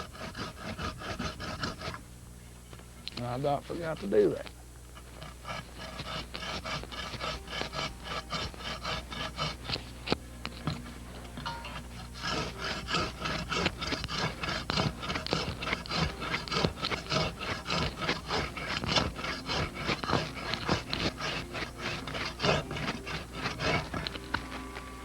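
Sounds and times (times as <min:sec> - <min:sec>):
hand saw rasping through branch: 0:00.0 - 0:02.0, 0:03.2 - 0:25.0.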